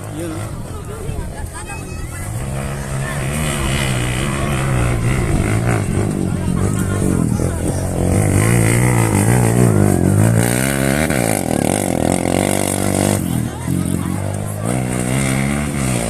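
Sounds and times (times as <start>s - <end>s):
off-road engines revving: 0.0s - 16.0s.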